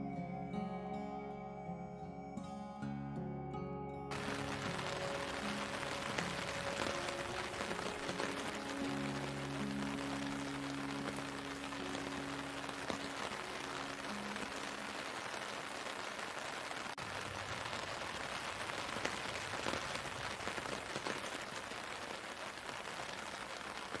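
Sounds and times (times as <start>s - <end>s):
raindrop ticks: 4.1s - 24.0s
steady rain hiss: 4.1s - 24.0s.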